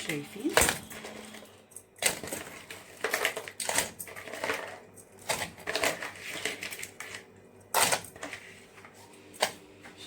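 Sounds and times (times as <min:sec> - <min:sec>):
crab shells clattering in a pot: 0:00.0 - 0:08.5.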